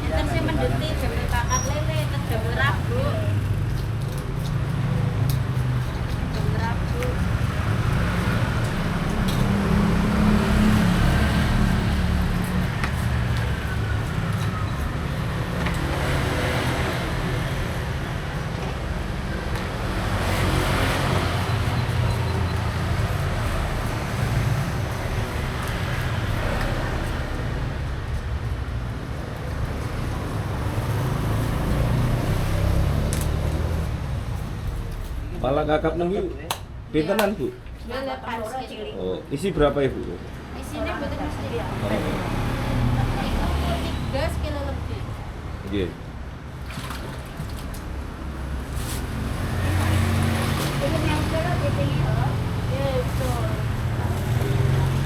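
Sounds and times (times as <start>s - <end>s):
traffic engines rumbling: 0.0s - 55.0s.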